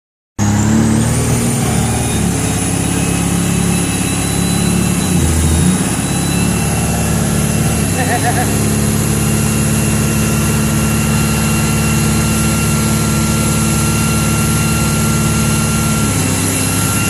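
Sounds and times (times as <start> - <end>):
heavy truck engine running: 0.4 - 17.0
thin high whine: 0.9 - 17.0.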